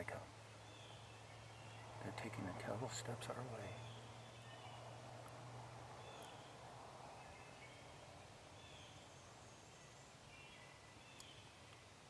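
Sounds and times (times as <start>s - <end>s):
distant songbird calls: 0.0s - 12.0s.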